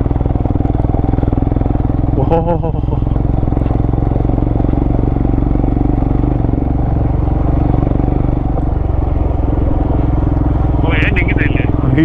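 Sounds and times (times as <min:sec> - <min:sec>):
vehicle engine climbing under load: 0:00.0 - 0:12.0.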